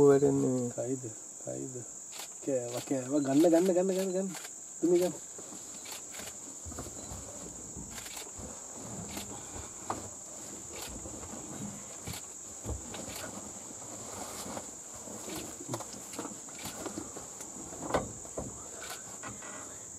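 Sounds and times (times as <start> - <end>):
high-pitched insect chorus drone: 0.0 - 19.9.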